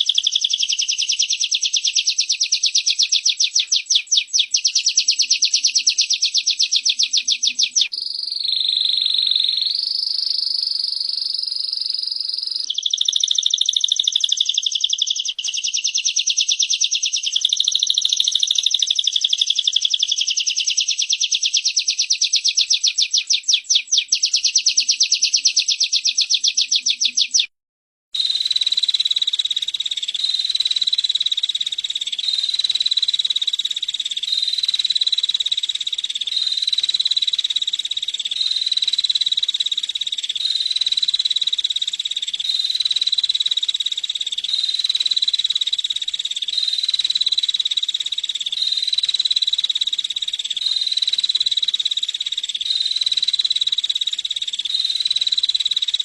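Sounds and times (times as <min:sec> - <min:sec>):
songbird fast high-pitched trill: 0:00.0 - 0:27.5, 0:28.2 - 0:56.0.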